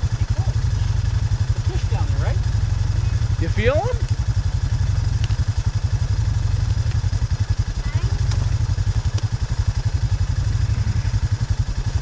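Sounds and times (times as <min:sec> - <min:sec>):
engine idling with rapid pulse: 0:00.0 - 0:12.0.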